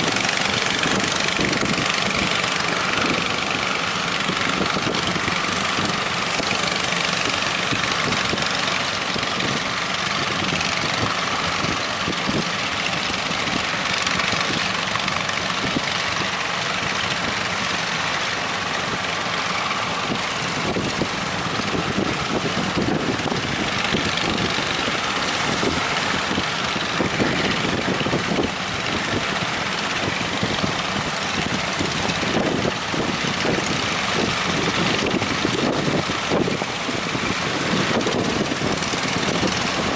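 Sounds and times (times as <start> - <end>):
boat engine running: 0.0 - 39.9
wind buffeting microphone: 0.0 - 39.9.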